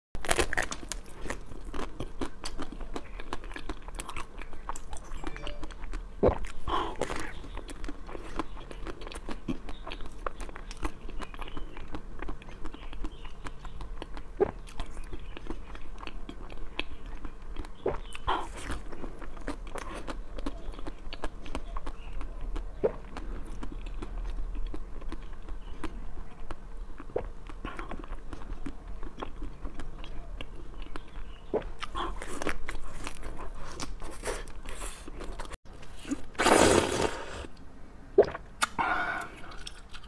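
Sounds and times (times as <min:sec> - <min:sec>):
person chewing with mouth clicks: 0:00.2 - 0:36.4, 0:38.2 - 0:40.0.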